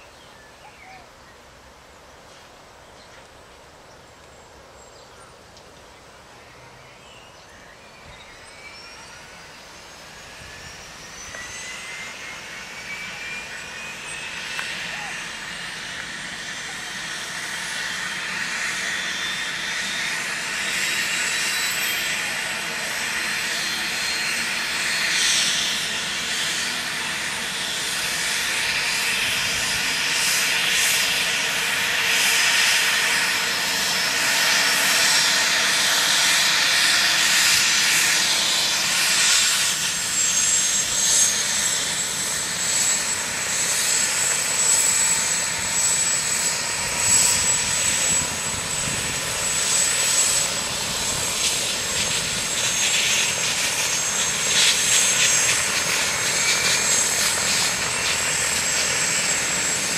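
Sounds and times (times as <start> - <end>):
helicopter turbine whine: 0.0 - 59.9
helicopter rotor noise: 7.6 - 59.9.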